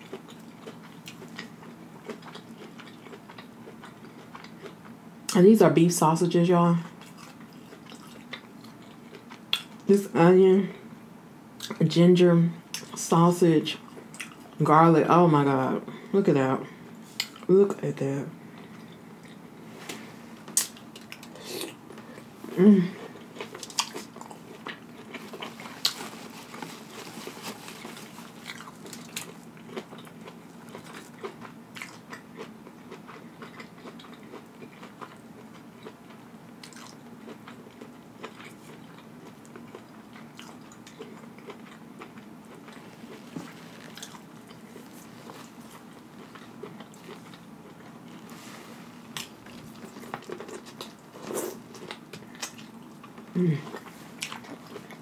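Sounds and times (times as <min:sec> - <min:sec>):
chewing and wet mouth sounds: 0:00.0 - 0:05.4, 0:06.8 - 0:09.9, 0:13.8 - 0:14.6, 0:17.1 - 0:17.5, 0:18.4 - 0:55.0.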